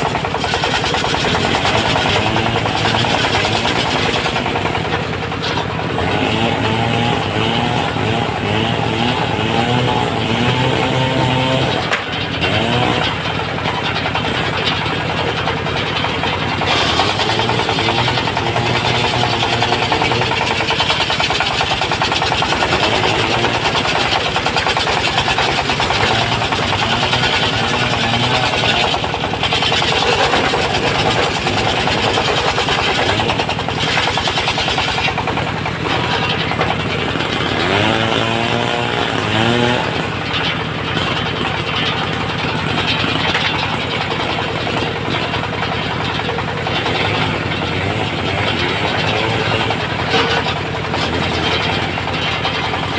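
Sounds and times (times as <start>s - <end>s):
circular saw cutting timber: 0.0s - 52.9s
engine pulse: 0.0s - 52.9s.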